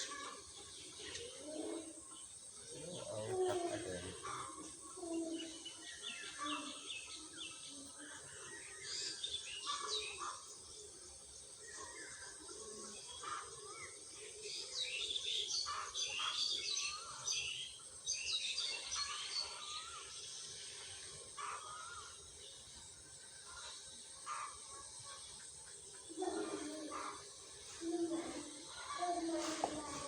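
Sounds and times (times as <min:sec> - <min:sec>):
background hiss: 0:00.0 - 0:30.0
small birds chirping: 0:00.0 - 0:30.0.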